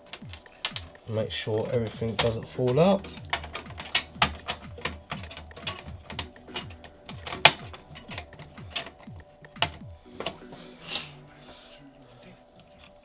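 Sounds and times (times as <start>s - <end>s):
screws clicking against computer case: 0.0s - 11.1s.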